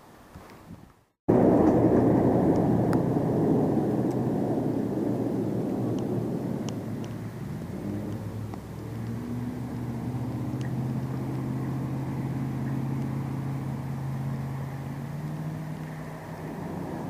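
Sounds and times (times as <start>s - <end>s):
engine running: 1.3s - 17.0s.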